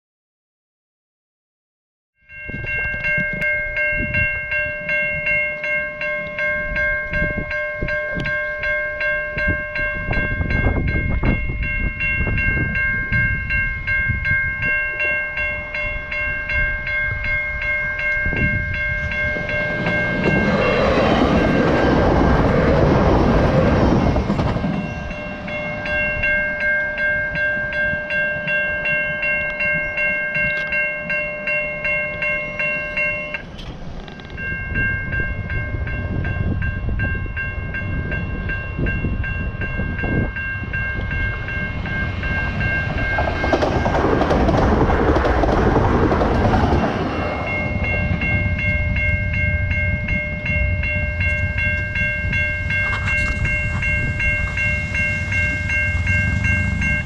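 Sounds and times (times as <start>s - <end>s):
level crossing bells ringing: 2.3s - 33.6s, 34.3s - 57.0s
train passing: 2.3s - 57.0s.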